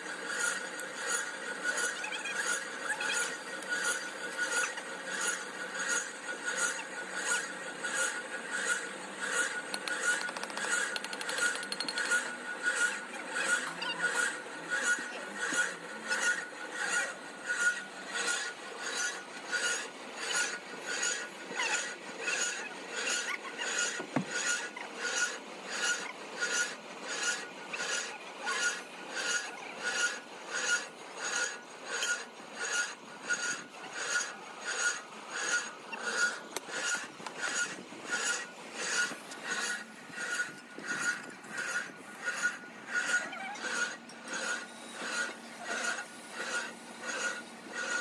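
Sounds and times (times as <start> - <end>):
rhythmic mechanical rasping: 0.0 - 48.0.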